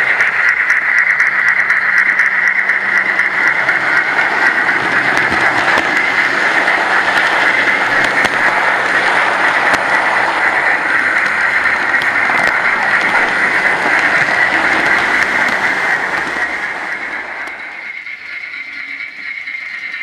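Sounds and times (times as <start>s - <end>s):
model train motor whine: 0.0s - 20.0s
wheels rattling on track: 0.0s - 20.0s.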